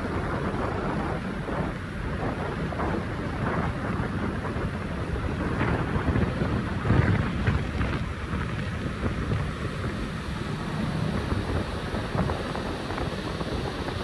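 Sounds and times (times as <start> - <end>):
low rumble of ship: 0.0 - 14.0
wind gusting on microphone: 0.0 - 14.0.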